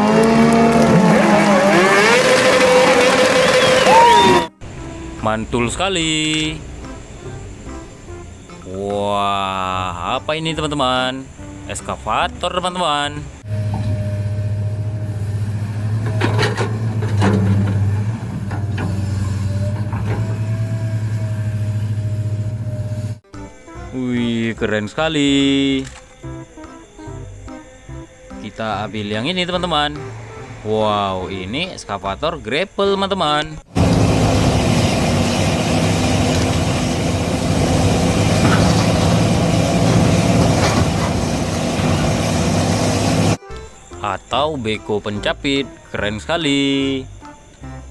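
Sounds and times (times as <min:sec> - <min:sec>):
excavator engine droning: 0:00.0 - 0:31.7, 0:33.6 - 0:44.0.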